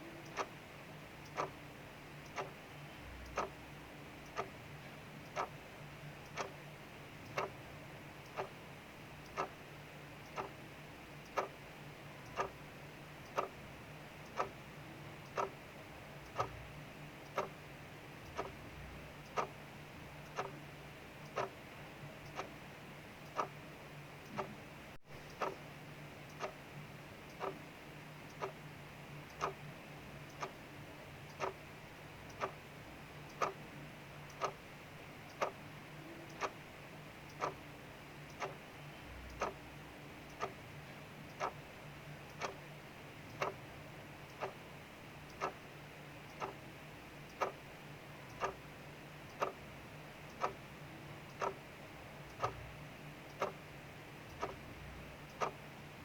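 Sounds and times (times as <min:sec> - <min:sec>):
clock ticking: 0:00.0 - 0:24.6, 0:25.2 - 0:28.6, 0:29.2 - 0:55.9.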